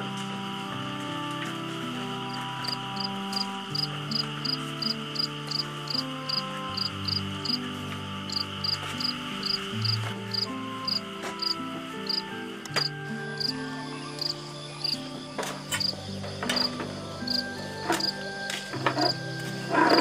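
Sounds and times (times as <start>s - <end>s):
crickets chirping: 0.0s - 20.0s
soft low music notes: 0.0s - 20.0s
steady insect hiss: 0.0s - 20.0s.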